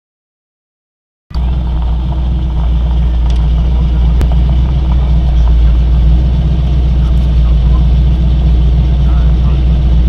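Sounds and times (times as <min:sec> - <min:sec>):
car engine rumbling at low speed: 0:01.3 - 0:10.0.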